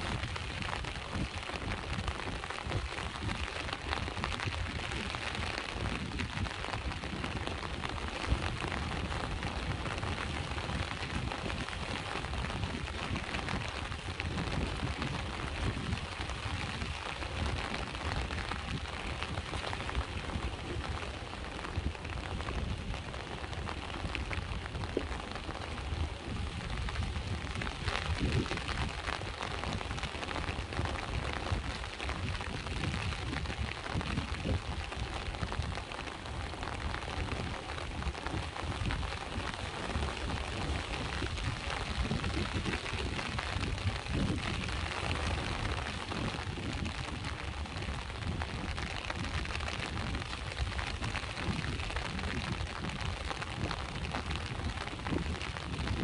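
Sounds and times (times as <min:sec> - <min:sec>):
rain pattering: 0:00.0 - 0:56.0
sea waves rumbling: 0:00.0 - 0:56.0.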